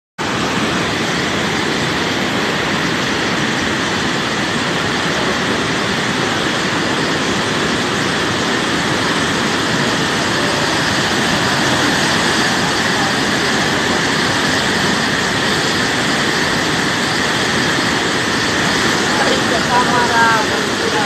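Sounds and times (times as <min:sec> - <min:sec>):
floodwater rushing: 0:00.2 - 0:21.0.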